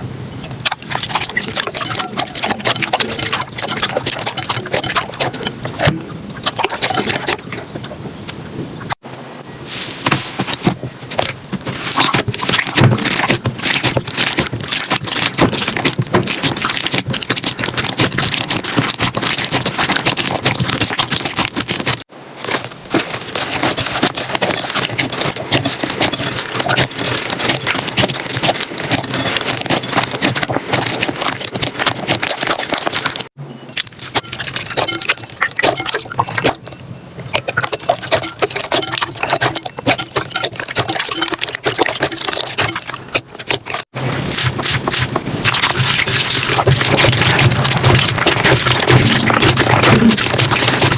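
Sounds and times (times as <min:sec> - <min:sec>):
slime squelching by hand: 0:00.0 - 0:08.0, 0:09.7 - 0:50.9.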